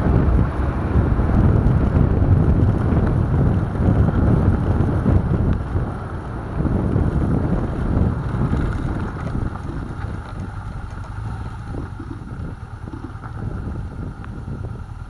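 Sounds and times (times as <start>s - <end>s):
motorcycle rumble: 0.0s - 15.0s
wind buffeting microphone: 0.0s - 15.0s.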